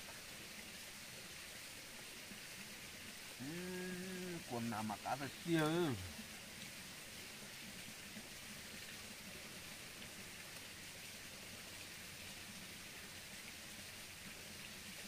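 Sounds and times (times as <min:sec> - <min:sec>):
faint outdoor background hiss: 0:00.0 - 0:15.0.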